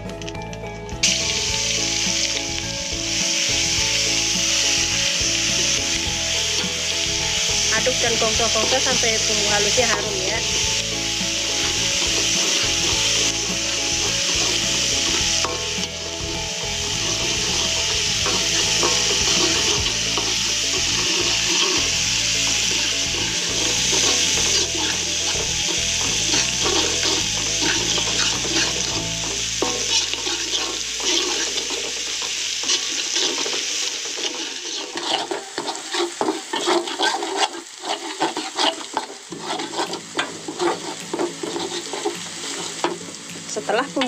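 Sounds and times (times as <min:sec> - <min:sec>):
spice paste sizzling in oil: 0:00.8 - 0:44.0
metal spatula scraping a wok: 0:01.1 - 0:43.1.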